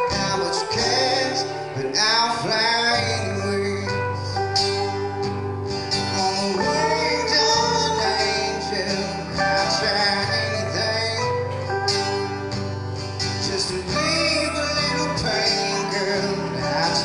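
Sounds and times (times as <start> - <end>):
acoustic guitar strumming: 0.0 - 17.0
electric guitar lead: 0.0 - 17.0.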